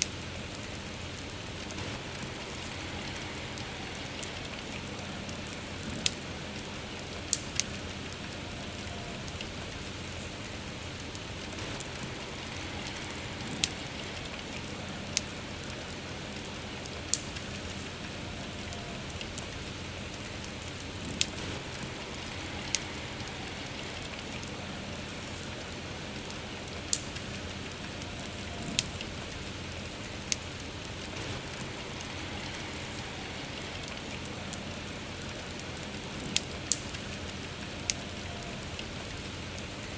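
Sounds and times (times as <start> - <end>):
rain falling: 0.0 - 39.9
wood fire crackling: 0.0 - 39.9.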